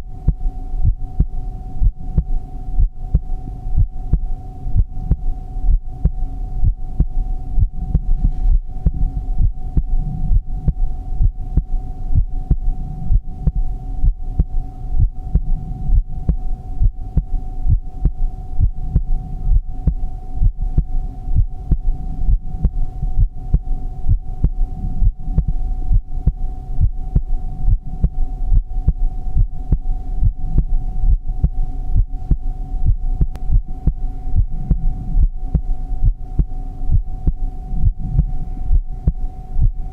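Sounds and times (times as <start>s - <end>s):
constant steady tone: 0.0s - 39.9s
heartbeat thumps: 0.0s - 39.9s.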